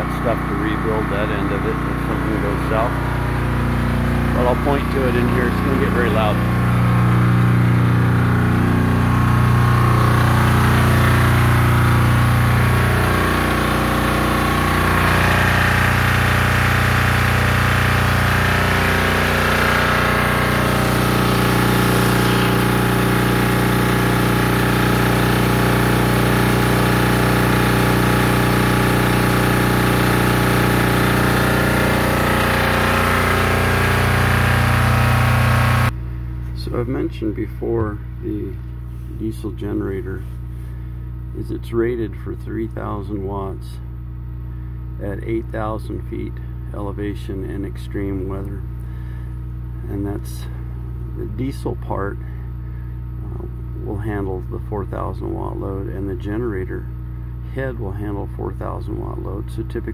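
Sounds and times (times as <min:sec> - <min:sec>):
diesel generator running: 0:00.0 - 0:59.9.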